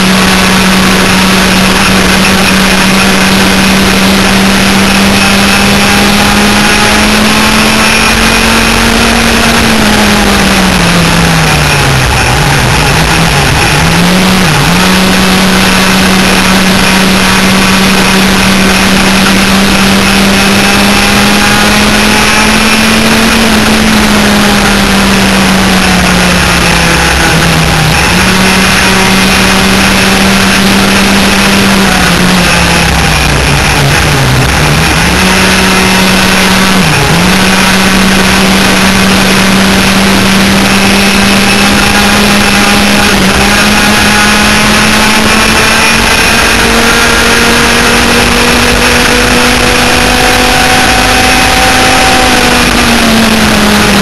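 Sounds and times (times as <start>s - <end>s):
kart engines racing: 0.0s - 54.0s.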